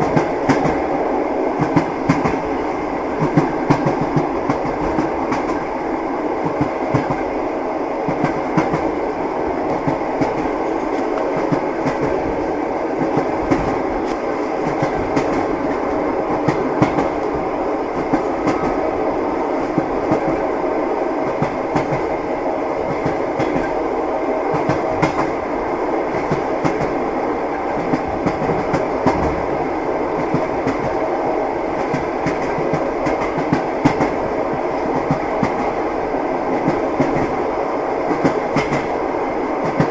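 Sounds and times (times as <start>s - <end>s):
train rolling rumble: 0.0s - 39.9s.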